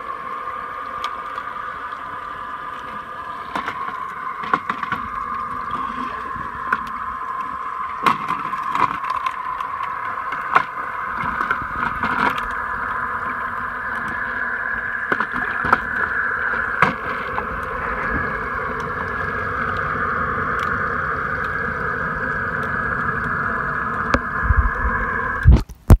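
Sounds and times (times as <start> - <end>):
pool vacuum motor whine underwater: 0.0 - 25.7.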